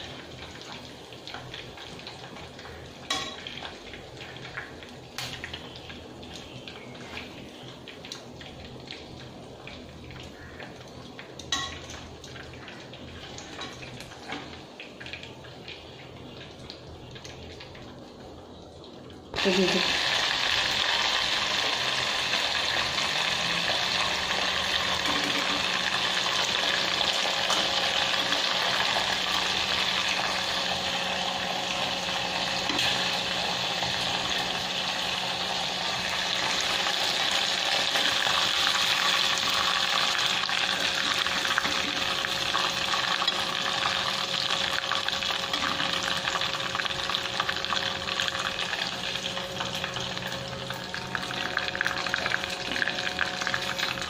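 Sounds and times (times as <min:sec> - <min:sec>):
liver deep-frying in oil: 0:00.0 - 0:54.0.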